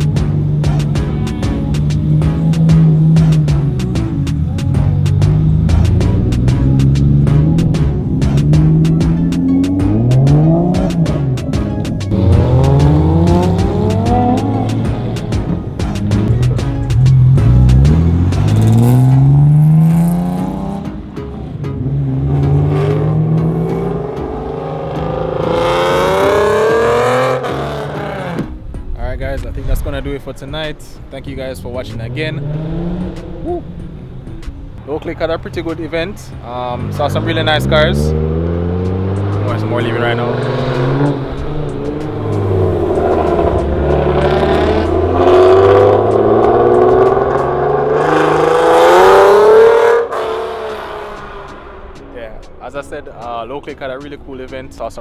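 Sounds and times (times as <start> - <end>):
car engine revving: 0.0 - 28.6, 31.2 - 54.2.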